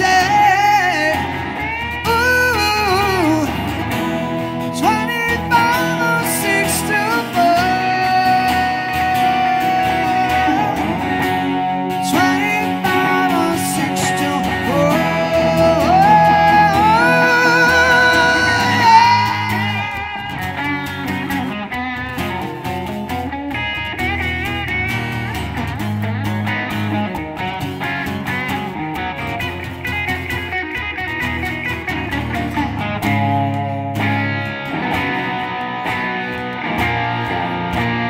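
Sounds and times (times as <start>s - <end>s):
lead guitar solo with bent notes: 0.0s - 38.0s
strummed acoustic guitar: 0.0s - 38.0s.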